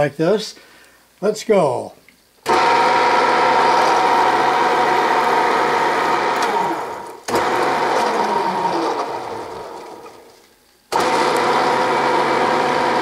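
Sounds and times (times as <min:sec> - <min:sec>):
gear whine: 0:02.4 - 0:13.0
milling machine running: 0:02.4 - 0:13.0.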